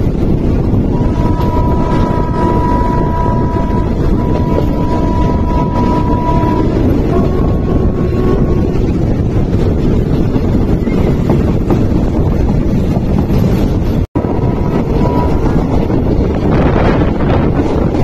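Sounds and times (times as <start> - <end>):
passenger train rumbling: 0.0 - 18.0
wind buffeting microphone: 0.0 - 18.0.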